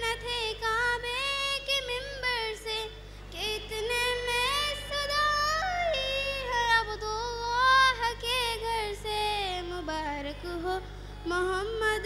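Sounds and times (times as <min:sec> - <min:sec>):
girl singing into a microphone: 0:00.0 - 0:12.0
low electrical hum: 0:00.0 - 0:12.0.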